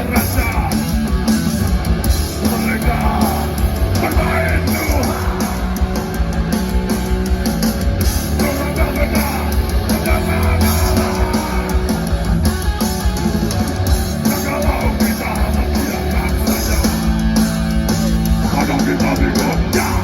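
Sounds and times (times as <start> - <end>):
heavy metal band playing live: 0.0 - 20.0.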